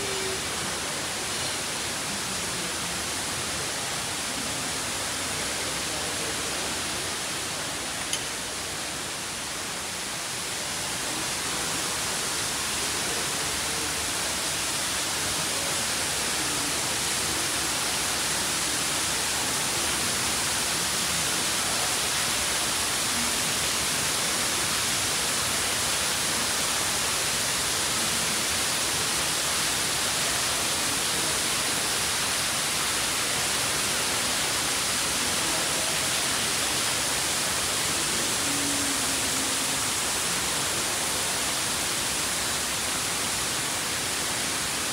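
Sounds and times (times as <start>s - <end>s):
water rushing from garden waterfall: 0.0s - 44.9s.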